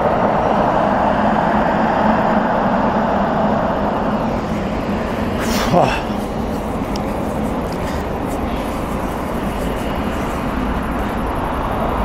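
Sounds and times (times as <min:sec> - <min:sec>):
faint steady hum: 0:00.0 - 0:12.0
jet engines running: 0:00.0 - 0:12.0.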